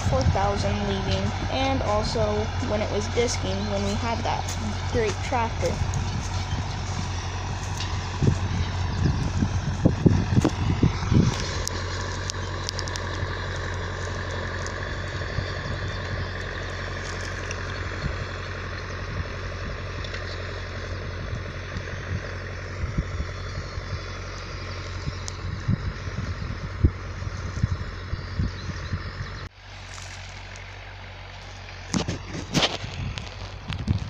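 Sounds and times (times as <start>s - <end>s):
wind buffeting microphone: 0.0s - 29.5s, 31.9s - 34.0s
tractor engine running: 0.0s - 34.0s.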